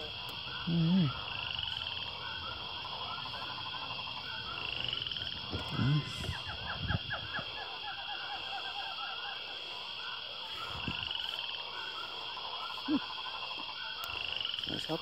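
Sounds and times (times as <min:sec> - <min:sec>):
chirping and croaking animal calls: 0:00.0 - 0:15.0
loud low animal calls: 0:00.0 - 0:15.0.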